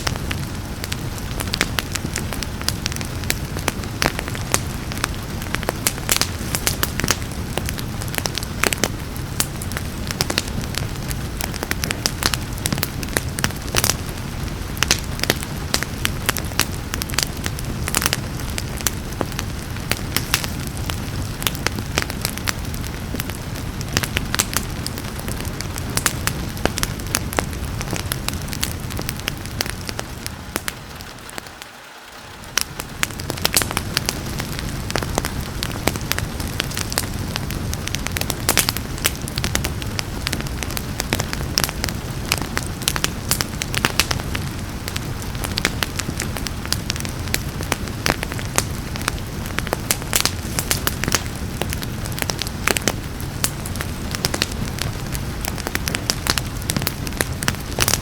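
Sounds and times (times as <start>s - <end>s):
rain hissing: 0.0s - 58.0s
wood fire crackling and popping: 0.0s - 58.0s.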